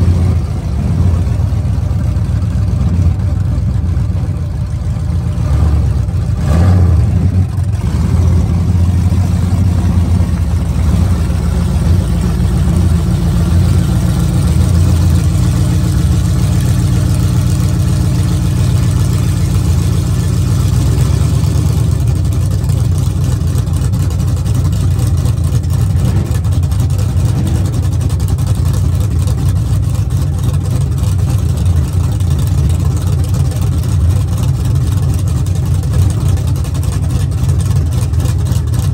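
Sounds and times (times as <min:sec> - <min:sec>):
pickup truck engine revving and idling: 0:00.0 - 0:38.9.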